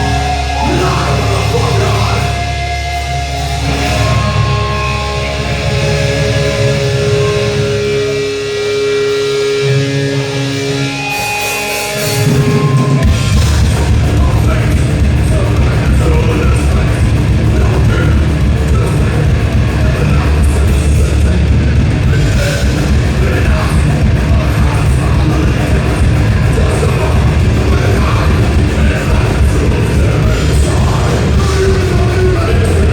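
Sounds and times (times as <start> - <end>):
distorted guitars: 0.0 - 32.9
drums: 0.0 - 32.9
metal band playing live: 0.0 - 32.9.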